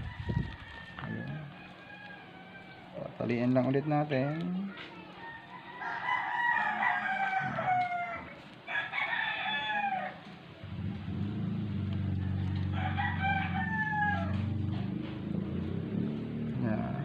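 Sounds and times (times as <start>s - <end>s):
roosters crowing: 0.0s - 3.2s, 5.1s - 17.0s.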